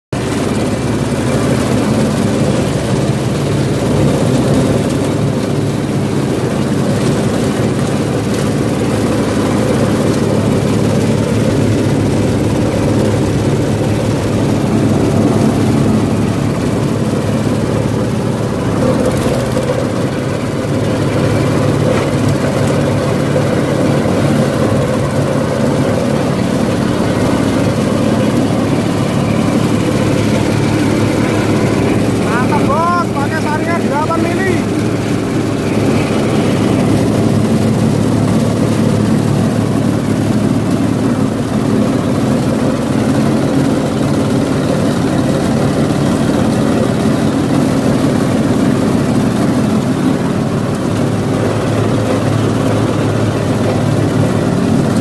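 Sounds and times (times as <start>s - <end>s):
grinding machine humming: 0.2s - 55.0s.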